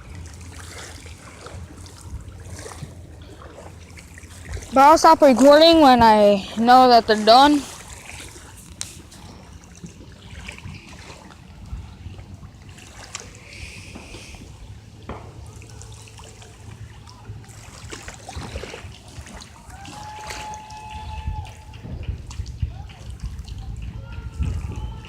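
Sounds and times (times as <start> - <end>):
distant boat engines humming: 0.0 - 25.0
small waves lapping: 0.0 - 25.0.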